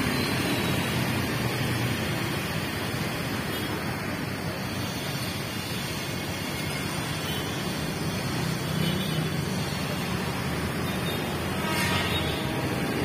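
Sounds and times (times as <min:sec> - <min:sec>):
cars going by: 0:00.0 - 0:13.0.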